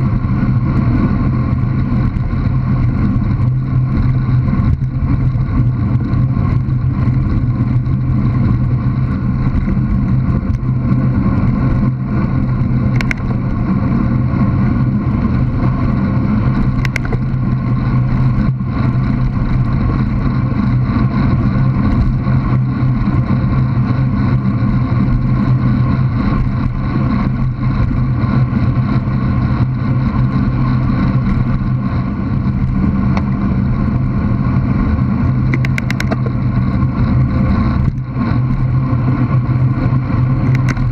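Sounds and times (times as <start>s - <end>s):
tyres on tarmac: 0.0s - 40.9s
wind rumble: 0.0s - 40.9s.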